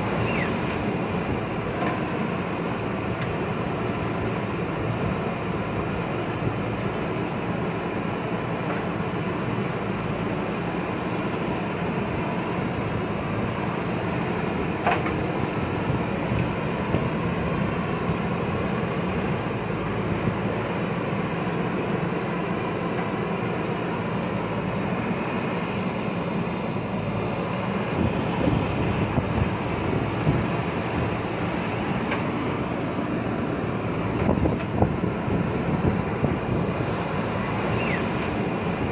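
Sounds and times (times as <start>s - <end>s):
backhoe diesel engine under load: 0.0s - 38.9s.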